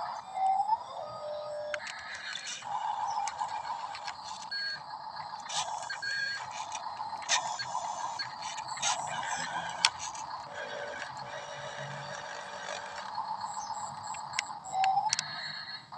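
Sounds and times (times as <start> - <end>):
small electric gear motors whirring: 0.0 - 15.8
plastic clicks and ticks: 1.7 - 4.7, 5.4 - 15.3.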